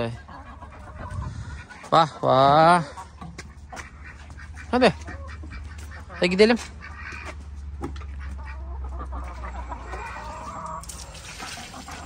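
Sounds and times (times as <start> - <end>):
hens clucking softly: 0.0 - 12.0.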